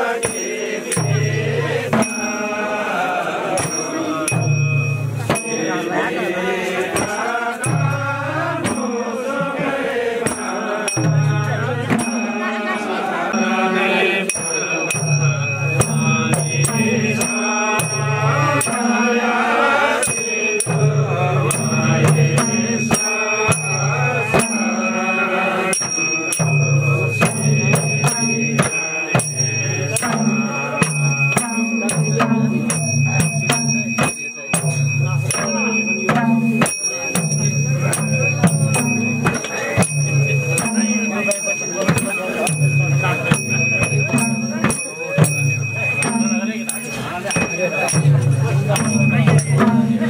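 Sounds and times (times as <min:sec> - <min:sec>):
hand-beaten barrel drums: 0:00.0 - 0:50.0
men chanting in unison: 0:00.0 - 0:50.0.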